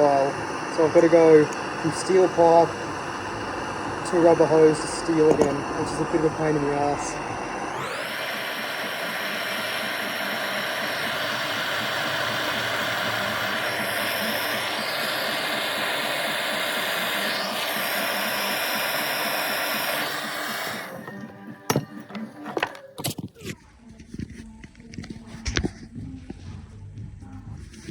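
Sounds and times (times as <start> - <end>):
electric grinder whining: 0.0 - 23.6.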